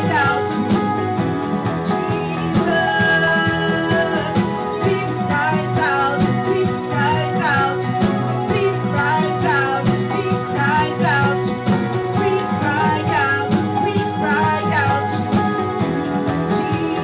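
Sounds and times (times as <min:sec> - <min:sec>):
electric keyboard chords: 0:00.0 - 0:17.0
woman singing: 0:00.0 - 0:17.0.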